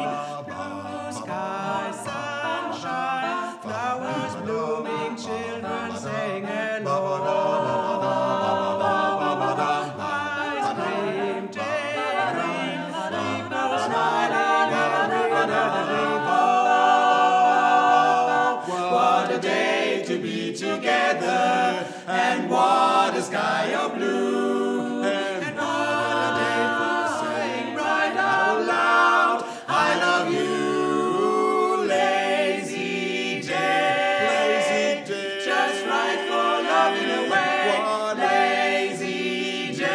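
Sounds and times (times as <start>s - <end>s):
a cappella quartet singing: 0.0s - 39.9s.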